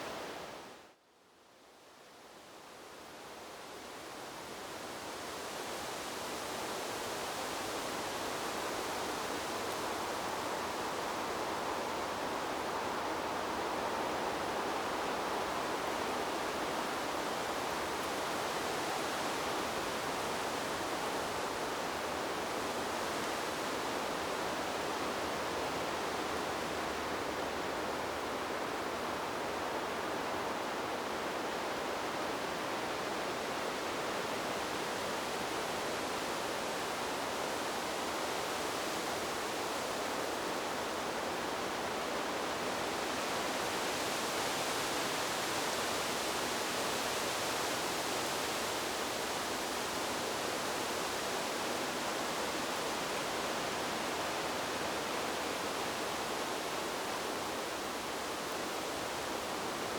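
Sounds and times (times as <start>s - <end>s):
wind through trees: 0.0s - 59.9s.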